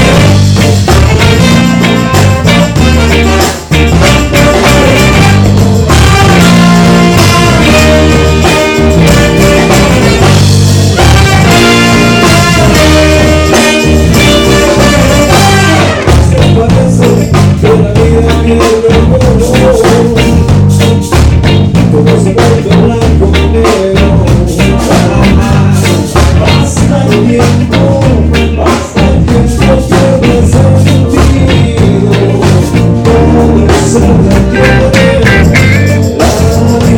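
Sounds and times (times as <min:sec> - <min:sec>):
heavy repeating bass line: 0:00.0 - 0:36.9
reggae band instrumental: 0:00.0 - 0:36.9.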